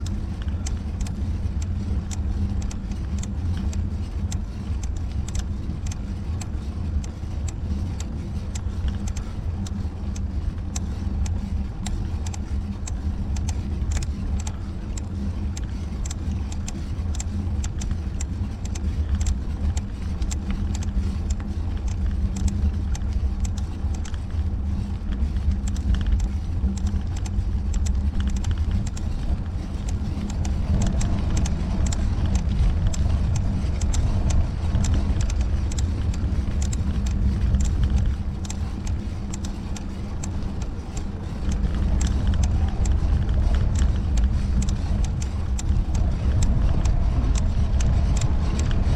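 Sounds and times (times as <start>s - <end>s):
road and wind rumble: 0.0s - 48.9s
small rattling clicks: 0.0s - 48.9s.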